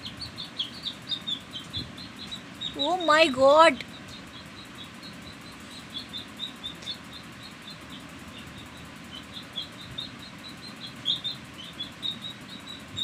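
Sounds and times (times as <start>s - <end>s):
chick peeping: 0.0s - 13.0s.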